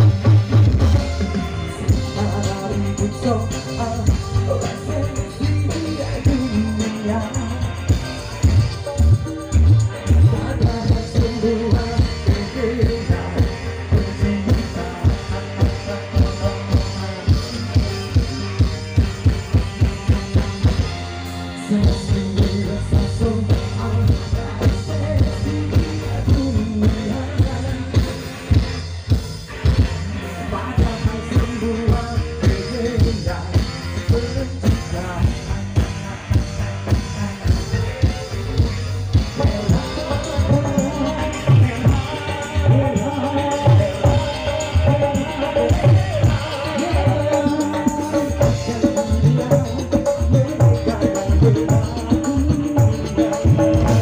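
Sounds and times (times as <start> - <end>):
male singer: 0.0 - 28.8, 29.5 - 54.0
drums with steady beat: 0.0 - 54.0
electric guitar: 0.0 - 54.0
keyboard: 0.0 - 54.0.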